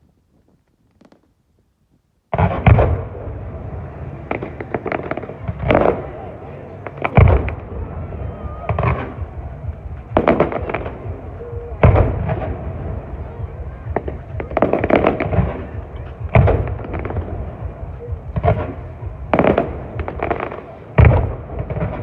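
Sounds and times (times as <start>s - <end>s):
fireworks bursting: 0.0s - 22.0s
fireworks rumbling: 0.0s - 22.0s.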